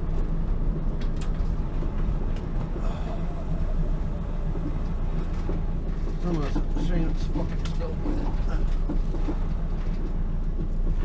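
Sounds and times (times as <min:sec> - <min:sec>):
turbocharged car engine running: 0:00.0 - 0:11.0.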